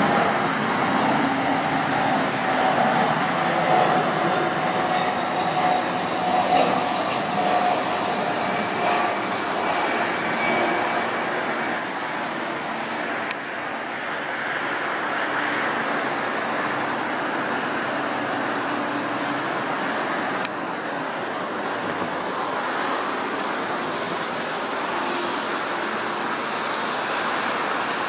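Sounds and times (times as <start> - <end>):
jet engine whine: 0.0 - 28.0
jet engines roaring: 0.0 - 28.0.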